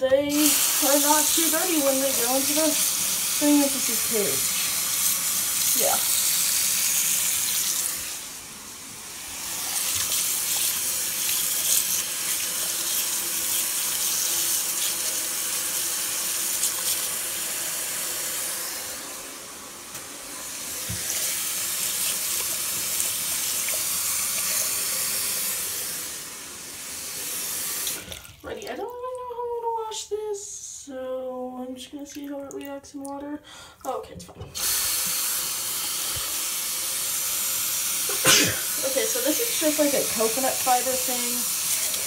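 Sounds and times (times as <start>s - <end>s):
tap water running into sink: 0.3s - 8.4s, 9.0s - 19.1s, 19.9s - 26.2s, 26.8s - 29.2s, 34.4s - 42.0s.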